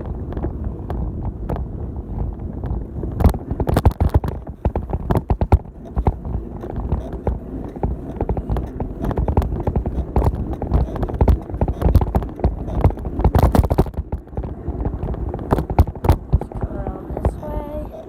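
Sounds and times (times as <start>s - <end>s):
bicycle rattling and clattering: 0.0s - 18.0s.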